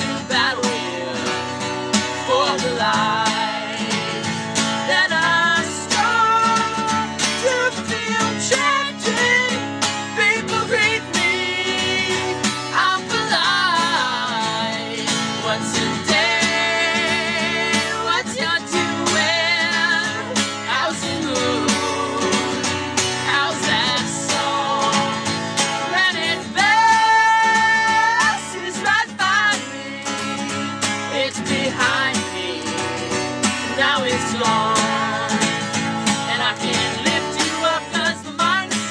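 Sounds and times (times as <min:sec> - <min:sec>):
acoustic guitar strumming: 0:00.0 - 0:38.9
men singing: 0:00.0 - 0:38.9.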